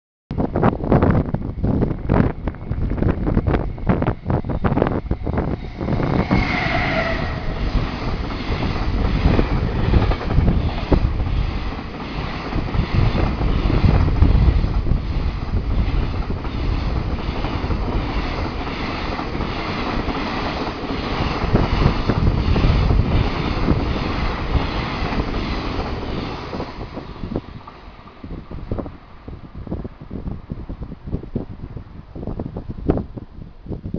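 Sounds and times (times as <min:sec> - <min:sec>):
freight train rumble: 0:00.3 - 0:33.9
locomotive whine: 0:00.4 - 0:28.9.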